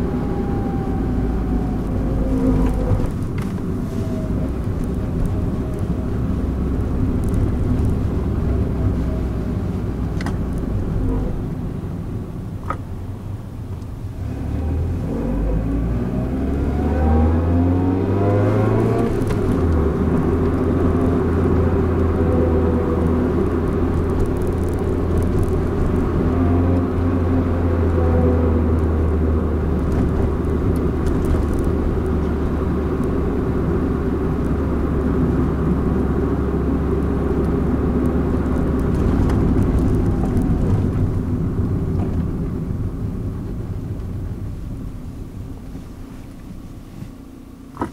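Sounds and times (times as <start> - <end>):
car engine from inside cabin: 0.0 - 47.9.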